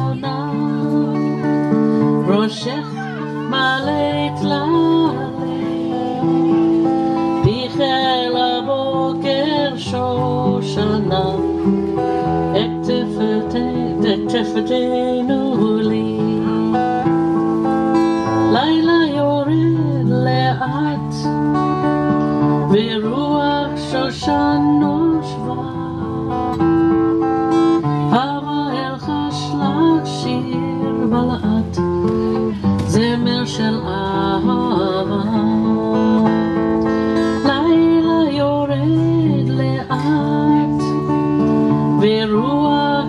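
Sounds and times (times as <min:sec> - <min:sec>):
acoustic guitar music: 0:00.0 - 0:43.0.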